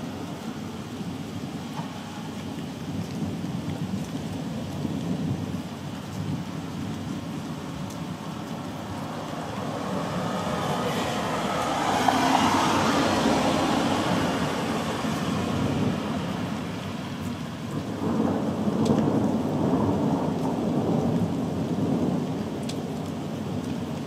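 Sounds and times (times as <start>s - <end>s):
falling rain: 0.0s - 24.0s
rolling thunder: 3.1s - 23.7s.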